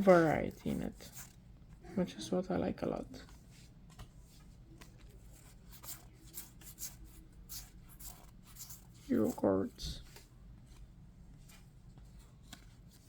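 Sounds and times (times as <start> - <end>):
trading cards rustling and scraping: 0.0 - 1.8, 2.9 - 13.0.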